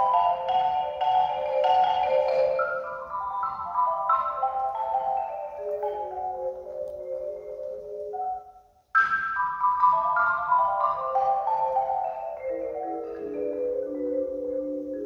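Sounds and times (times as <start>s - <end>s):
marimba playing: 0.0s - 15.0s.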